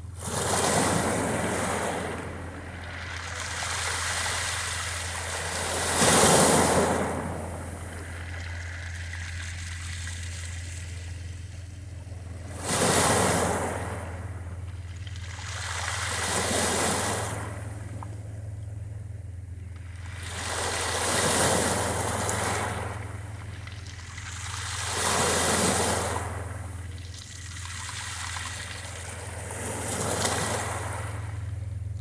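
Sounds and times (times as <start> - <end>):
sea waves breaking on beach: 0.0 - 18.2, 19.9 - 32.0.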